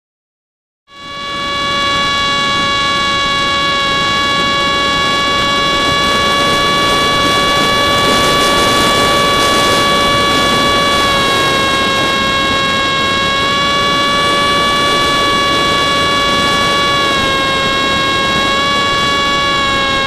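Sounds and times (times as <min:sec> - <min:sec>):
electric motor and propeller whining: 0:00.9 - 0:20.0
wind noise: 0:01.1 - 0:20.0.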